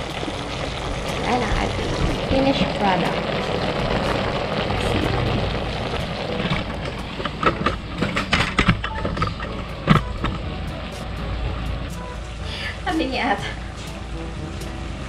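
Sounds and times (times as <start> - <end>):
low rumbling hiss: 0.0 - 15.0.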